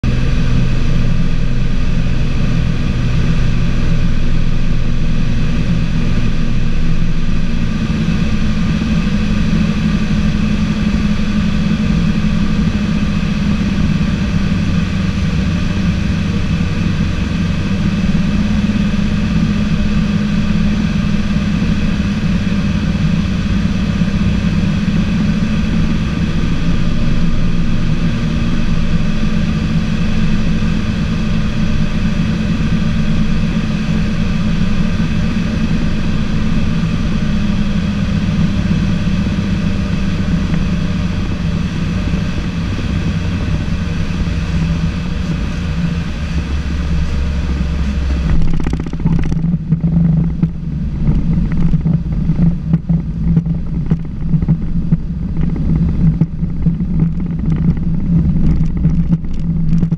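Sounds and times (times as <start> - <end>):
aircraft engines and propellers droning: 0.0 - 59.9.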